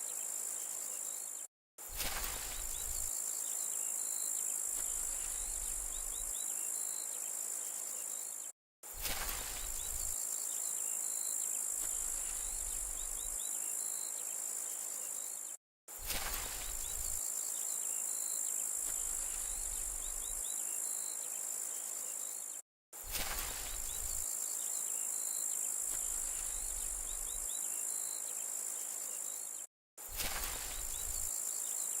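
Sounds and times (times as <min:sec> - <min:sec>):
faint insect chirps: 0:00.0 - 0:32.0
insects buzzing: 0:00.0 - 0:32.0.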